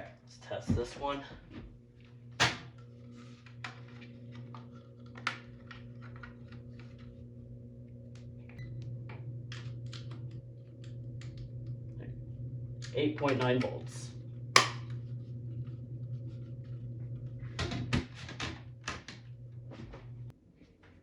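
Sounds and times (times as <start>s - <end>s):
steady low hum: 0.0s - 20.3s.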